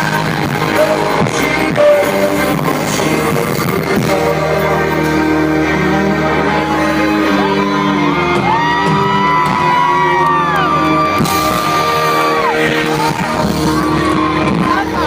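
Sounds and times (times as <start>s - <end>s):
fans screaming: 0.0s - 15.0s
pop music over speakers: 0.0s - 15.0s.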